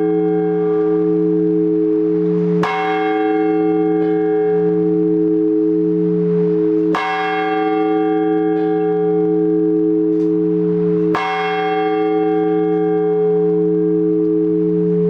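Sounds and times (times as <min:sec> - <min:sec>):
large church bell ringing: 0:00.0 - 0:15.0.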